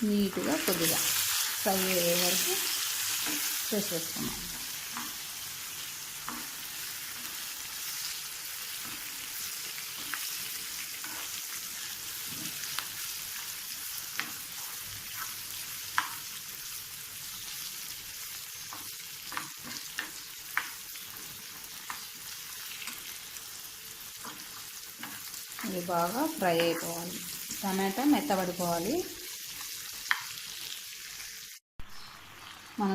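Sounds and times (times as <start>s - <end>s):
food sizzling in hot oil: 0.0s - 32.9s.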